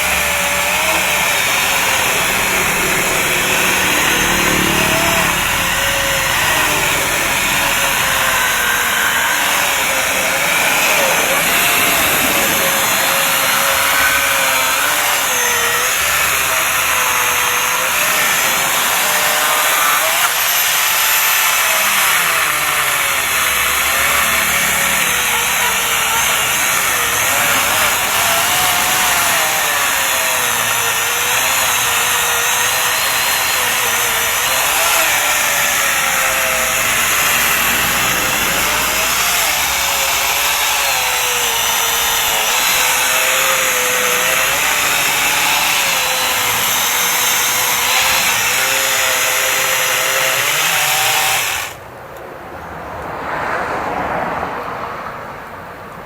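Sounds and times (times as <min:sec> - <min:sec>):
reciprocating saw cutting branch: 0:00.0 - 0:51.8.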